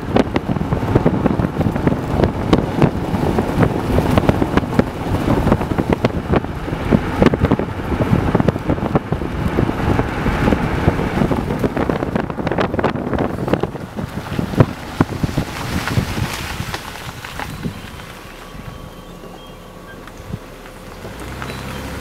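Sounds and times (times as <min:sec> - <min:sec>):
car road noise: 0:00.0 - 0:22.0
wind buffeting microphone: 0:00.0 - 0:22.0.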